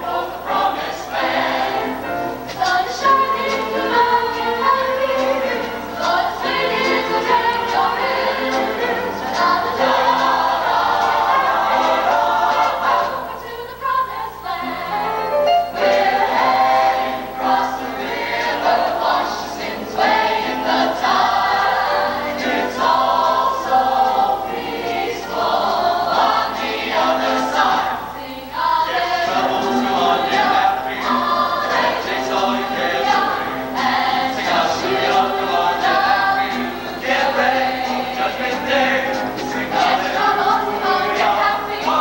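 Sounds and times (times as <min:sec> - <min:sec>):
mixed choir singing: 0:00.0 - 0:42.0.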